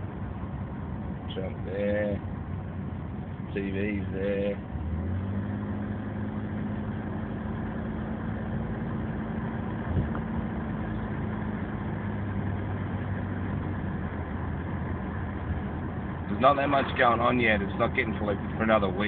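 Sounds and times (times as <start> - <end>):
car engine and exhaust drone: 0.0 - 19.0.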